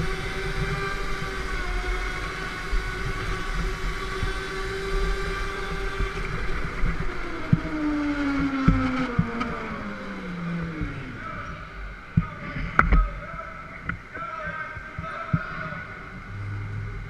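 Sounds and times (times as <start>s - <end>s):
go-kart motor running: 0.0s - 17.0s.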